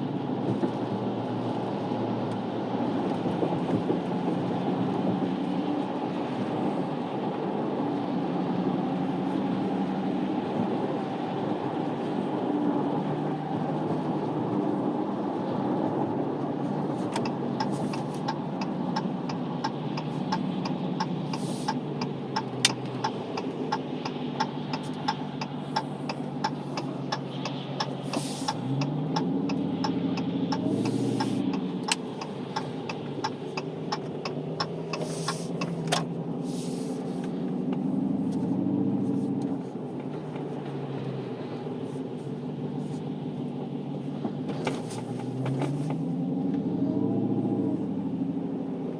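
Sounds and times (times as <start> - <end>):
car engine revving while driving: 0.0 - 48.9.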